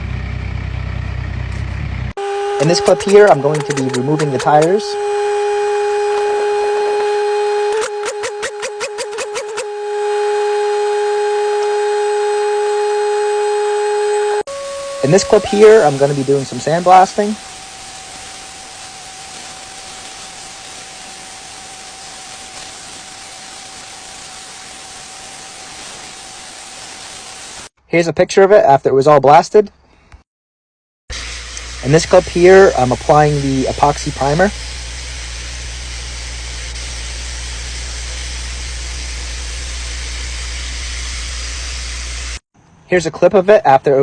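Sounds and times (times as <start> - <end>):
steady low hum: 0.0 - 27.6, 31.1 - 42.4
sandblaster nozzle hissing: 2.2 - 27.7, 31.1 - 42.4.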